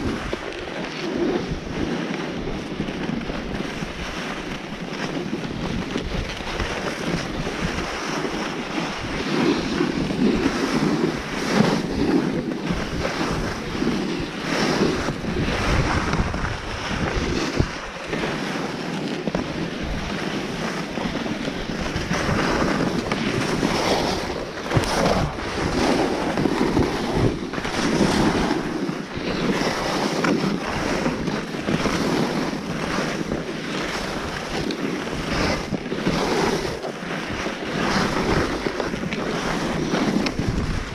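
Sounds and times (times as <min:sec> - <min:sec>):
skis scraping over snow: 0:00.0 - 0:40.9
wind rushing over microphone: 0:00.0 - 0:40.9.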